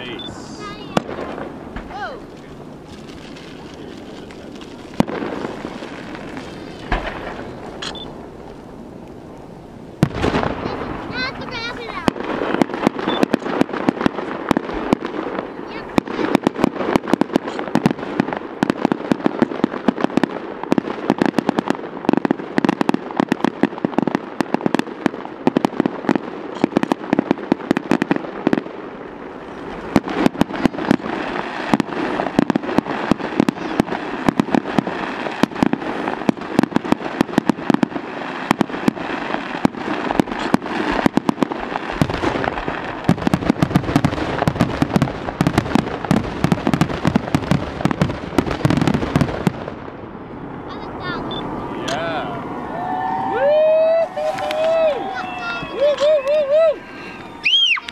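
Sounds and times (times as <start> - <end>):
fireworks bursting and crackling: 0.0 - 57.9.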